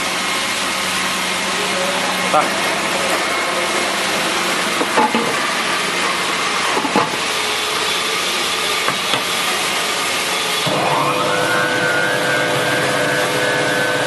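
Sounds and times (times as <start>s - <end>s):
motor whine rising in pitch: 0.0s - 14.0s.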